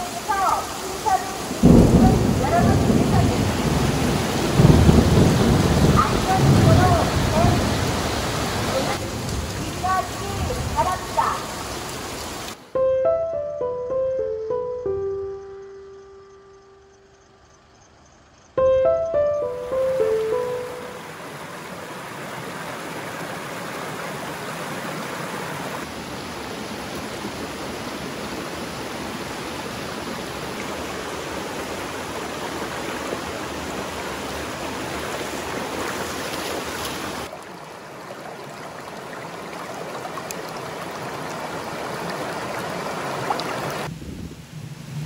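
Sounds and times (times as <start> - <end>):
stream water rushing: 0.0 - 12.7, 19.4 - 43.9.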